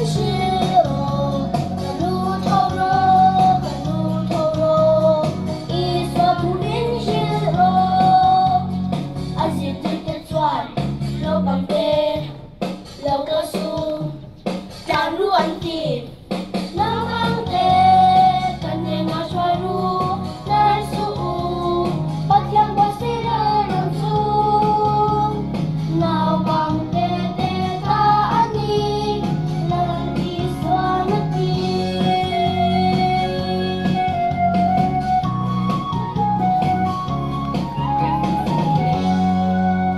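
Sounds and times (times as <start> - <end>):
children and women singing: 0.0 - 8.7, 9.4 - 34.1
instrumental backing with bass line: 0.0 - 39.9.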